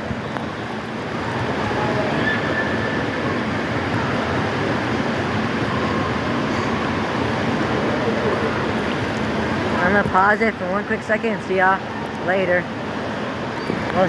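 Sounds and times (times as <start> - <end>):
splashing rushing water: 0.0 - 14.0.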